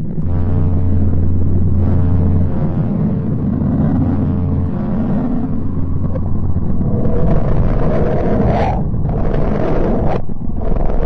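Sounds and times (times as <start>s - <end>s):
deep rumbling drone: 0.0s - 11.0s
low hum: 0.0s - 11.0s.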